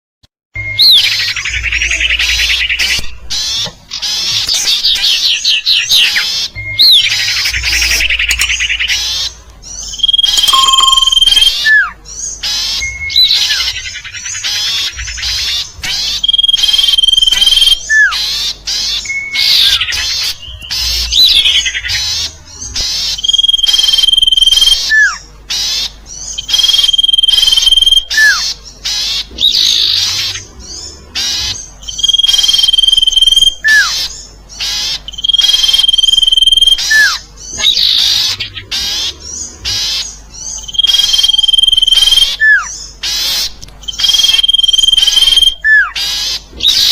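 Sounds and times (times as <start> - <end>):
bird call with buzzy trill and whistle: 0.6 - 46.9.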